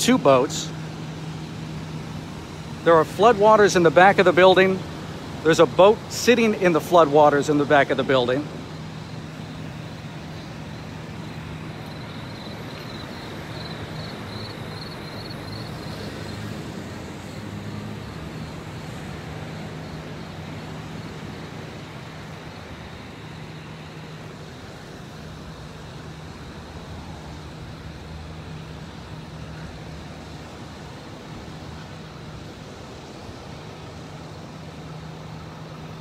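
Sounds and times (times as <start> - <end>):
road traffic hum: 0.0 - 36.0.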